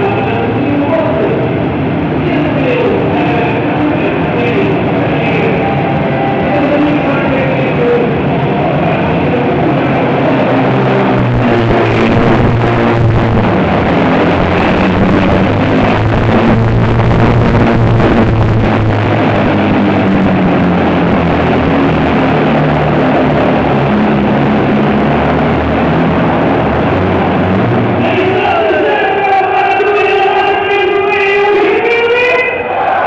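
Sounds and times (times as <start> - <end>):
heavy truck engine revving: 0.0 - 31.8.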